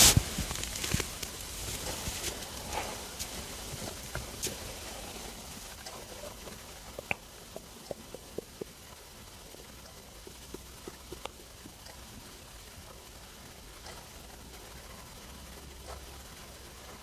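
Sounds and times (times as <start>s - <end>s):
stomach gurgling: 0.0s - 17.0s.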